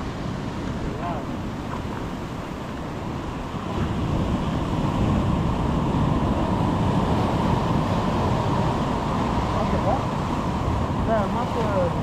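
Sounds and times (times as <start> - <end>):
surf on shore: 0.0 - 12.0
wind buffeting microphone: 0.0 - 12.0.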